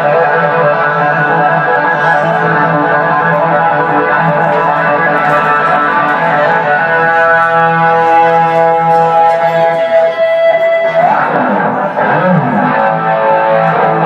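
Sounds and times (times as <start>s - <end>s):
electric guitar solo: 0.0s - 14.0s.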